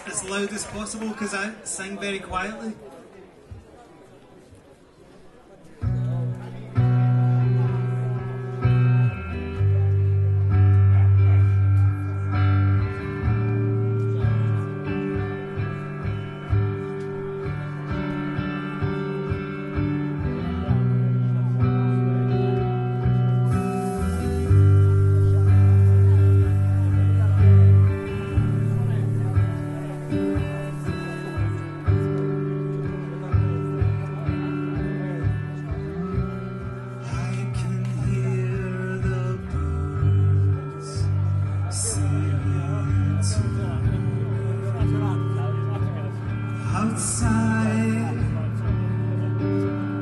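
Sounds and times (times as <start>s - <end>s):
electric guitar chords: 5.8s - 50.0s.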